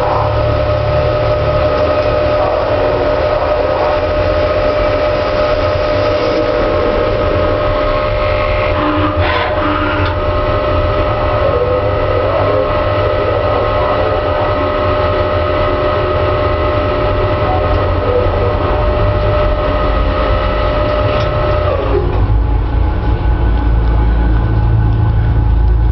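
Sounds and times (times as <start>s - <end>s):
lathe running with steady whine: 0.0s - 25.9s
low rumble: 0.0s - 25.9s.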